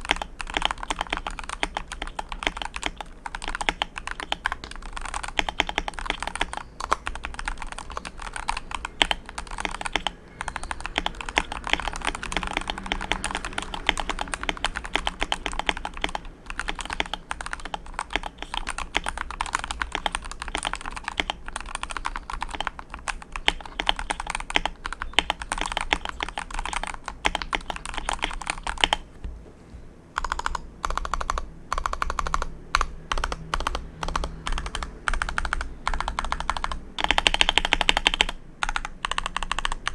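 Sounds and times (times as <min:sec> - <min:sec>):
mechanical keyboard typing: 0:00.0 - 0:29.1, 0:30.2 - 0:39.9.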